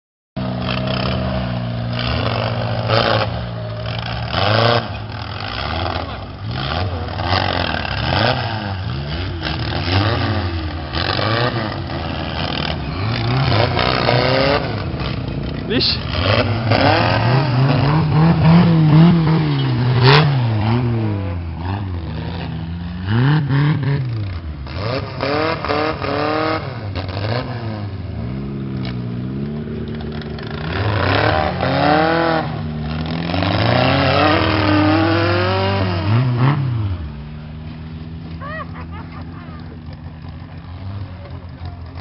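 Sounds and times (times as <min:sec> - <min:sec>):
buggy engine revving: 0:00.4 - 0:42.0.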